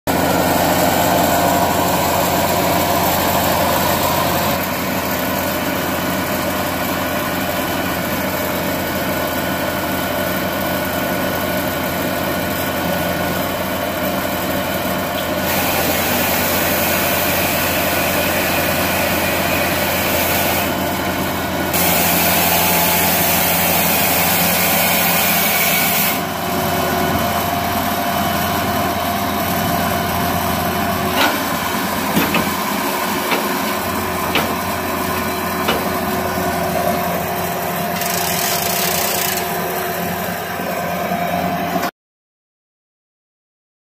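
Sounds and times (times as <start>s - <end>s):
firewood processor mechanical drone: 0.1s - 41.9s.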